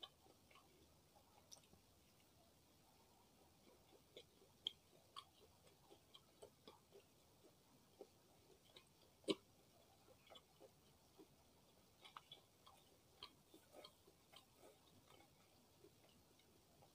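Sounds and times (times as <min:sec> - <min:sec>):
wet chewing mouth clicks: 0:00.0 - 0:02.3, 0:03.2 - 0:16.9.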